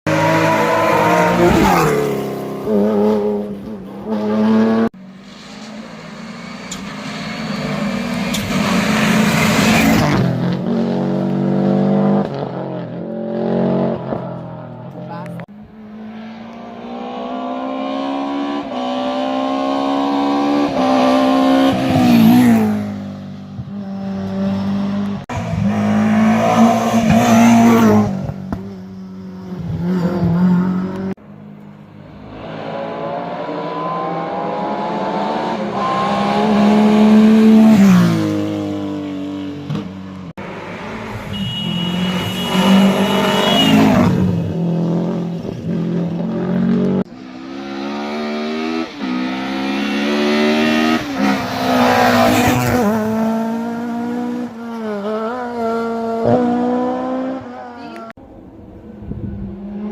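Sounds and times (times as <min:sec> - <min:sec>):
rally cars racing past: 0:00.1 - 0:59.9.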